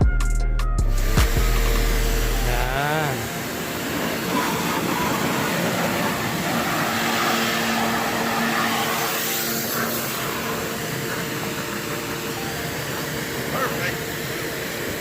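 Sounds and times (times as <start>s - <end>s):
faint motor hum: 0.8s - 15.0s
pressure washer spraying water: 0.8s - 15.0s.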